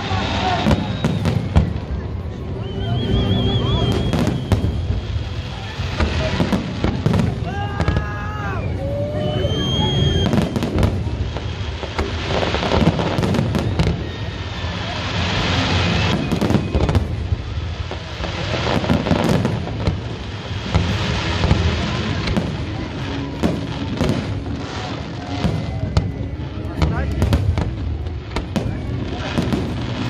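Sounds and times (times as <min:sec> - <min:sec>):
crackling hiss: 0:00.0 - 0:30.0.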